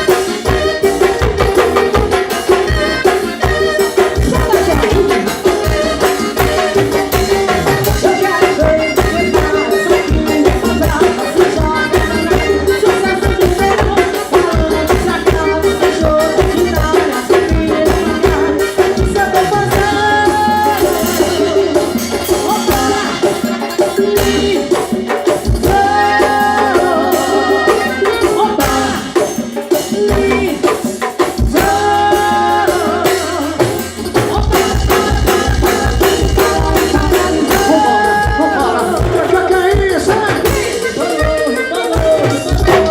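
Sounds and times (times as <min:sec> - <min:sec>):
band music playing loudly: 0:00.0 - 0:42.9
quick drum beat: 0:00.0 - 0:42.9.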